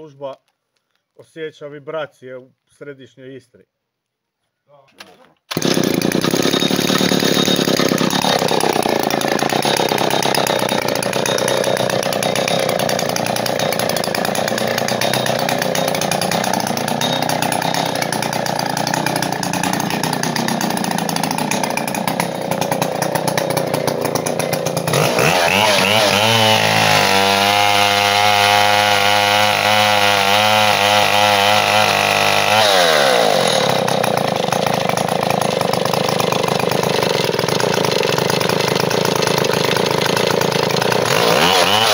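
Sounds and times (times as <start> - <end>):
chainsaw engine idling and revving: 5.5 - 41.9.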